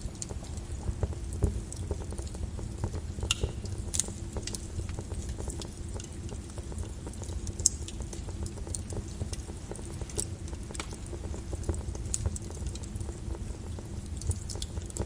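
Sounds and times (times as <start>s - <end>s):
lava rumbling and crackling: 0.0s - 15.0s.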